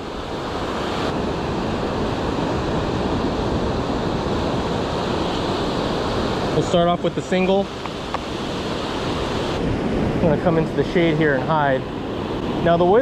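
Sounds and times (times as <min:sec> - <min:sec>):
ocean surf breaking on beach: 0:00.0 - 0:13.0.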